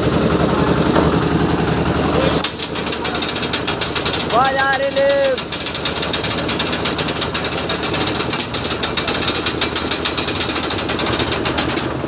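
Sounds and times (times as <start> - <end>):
machinery chugging rattle: 0.0 - 12.0.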